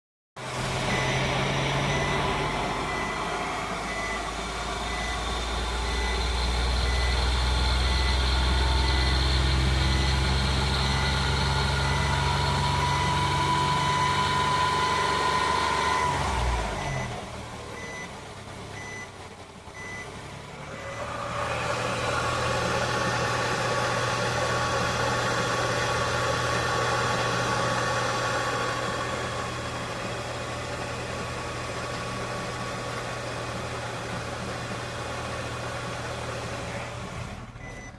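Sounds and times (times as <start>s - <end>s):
vehicle engine drone: 0.4s - 37.9s.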